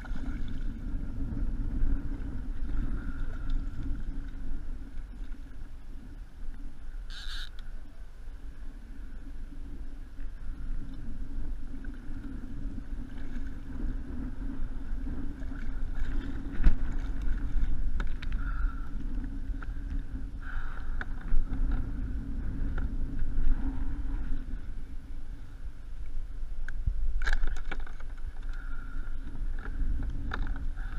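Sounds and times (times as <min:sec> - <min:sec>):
water lapping against kayak hull: 0:00.0 - 0:26.1, 0:26.8 - 0:30.9
wind rumbling on microphone: 0:00.0 - 0:30.9.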